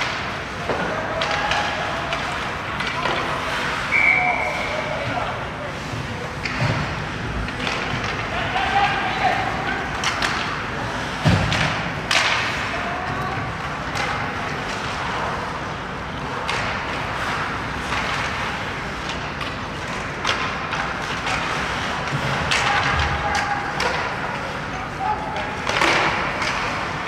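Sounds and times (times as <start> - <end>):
hockey sticks and puck clacking: 0.0 - 27.0
skates on ice: 0.0 - 27.0.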